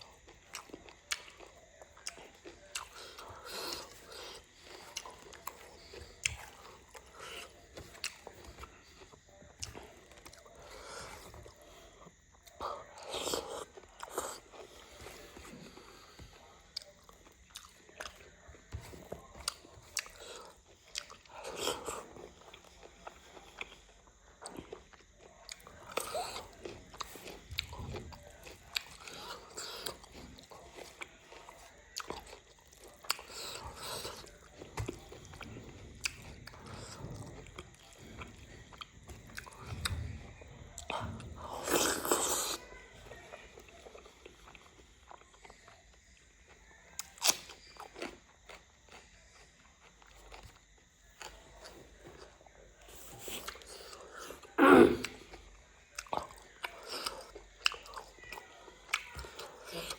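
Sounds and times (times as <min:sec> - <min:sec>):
person chewing and biting food: 0:00.0 - 0:42.8, 0:43.6 - 0:59.9.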